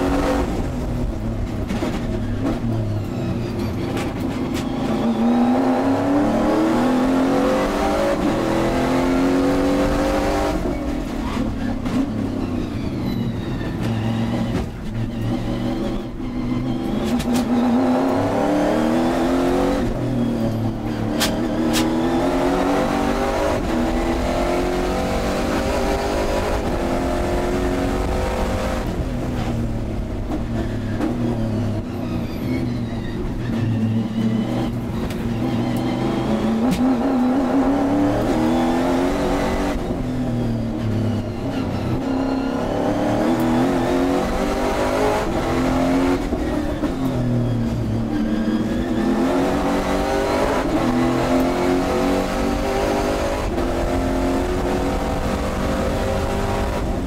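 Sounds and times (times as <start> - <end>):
racing car engine accelerating: 0.0 - 57.0.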